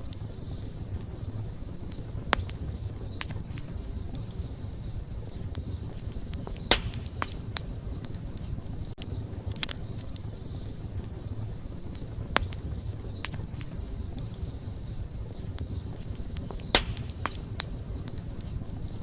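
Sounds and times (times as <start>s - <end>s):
campfire flame rumbling: 0.0s - 19.0s
fire crackles and pops: 0.0s - 19.0s.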